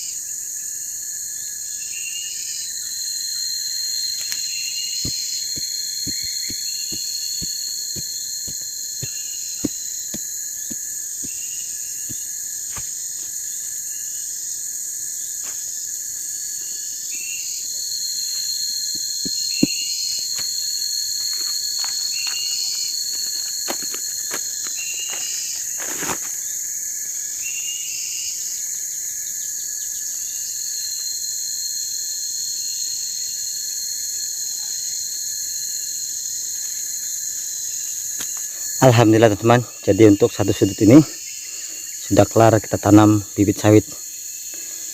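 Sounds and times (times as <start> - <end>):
crickets and insects trilling: 0.0 - 44.9.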